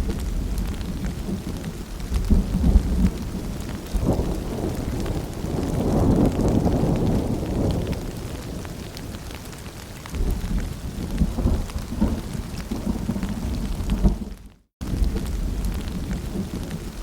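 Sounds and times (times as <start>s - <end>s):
low rumble of thunder: 0.0s - 17.0s
rain with drop ticks: 0.0s - 17.0s.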